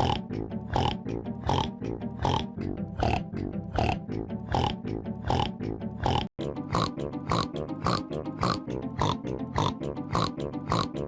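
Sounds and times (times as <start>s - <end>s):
cartoon pig snoring sample: 0.0s - 11.0s.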